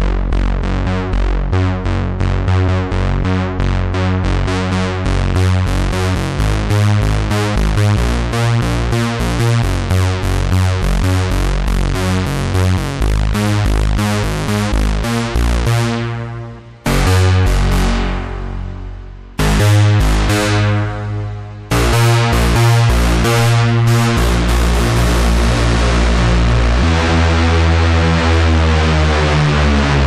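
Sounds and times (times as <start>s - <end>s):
long held synth notes: 0.0s - 30.0s
synthesizer bass sequence: 0.0s - 30.0s.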